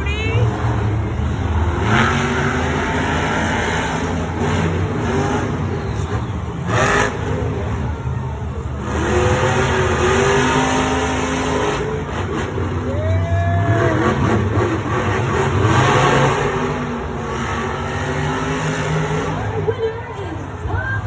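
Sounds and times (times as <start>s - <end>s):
monster truck engines revving: 0.0s - 21.0s.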